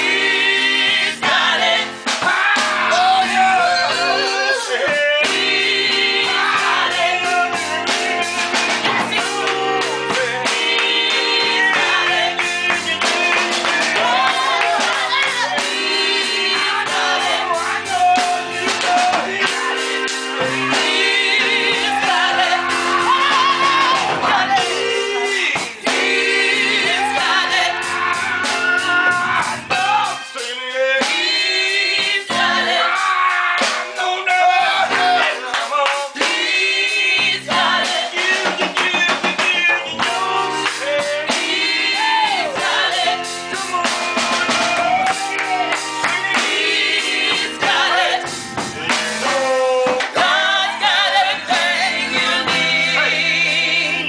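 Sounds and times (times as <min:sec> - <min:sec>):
drum kit: 0:00.0 - 0:54.0
electronic keyboard: 0:00.0 - 0:54.0
gospel group singing: 0:00.0 - 0:54.0.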